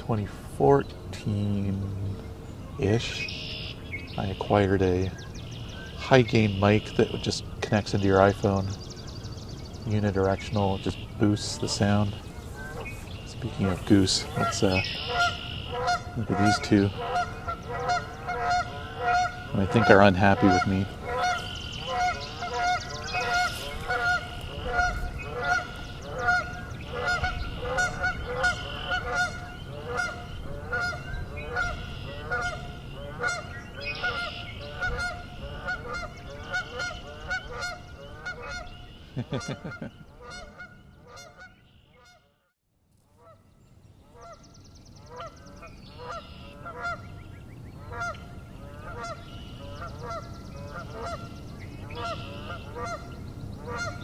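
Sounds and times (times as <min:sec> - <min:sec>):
geese honking: 0:02.8 - 0:08.8, 0:09.9 - 0:42.3, 0:45.1 - 0:47.2, 0:47.8 - 0:54.0.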